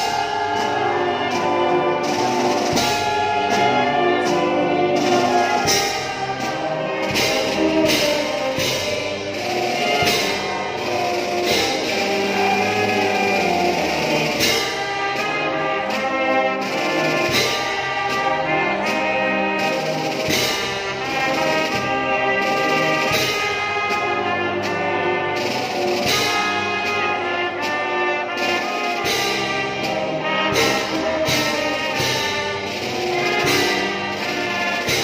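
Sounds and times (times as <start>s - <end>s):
brass band playing: 0.0s - 35.0s
tuba: 0.0s - 35.0s.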